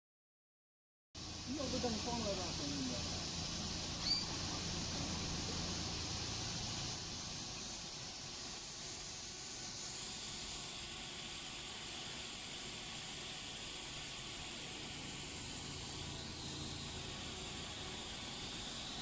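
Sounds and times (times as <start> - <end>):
high machine whine: 1.2 - 19.0
low machine hum: 1.2 - 19.0
machine hiss: 1.2 - 19.0.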